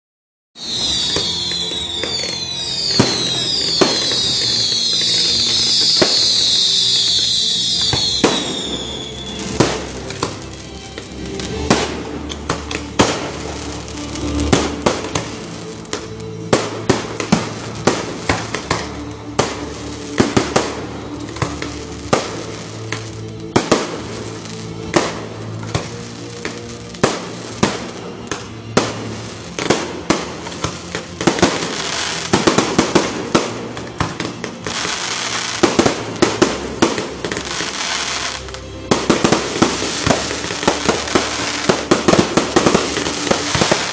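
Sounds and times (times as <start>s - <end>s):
whistling fireworks falling in pitch: 0.6s - 43.9s.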